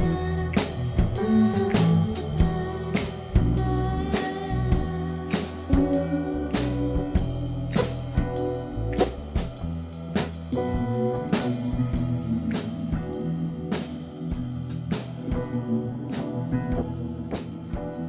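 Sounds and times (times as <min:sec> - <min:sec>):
instrumental rock blues band: 0:00.0 - 0:18.0.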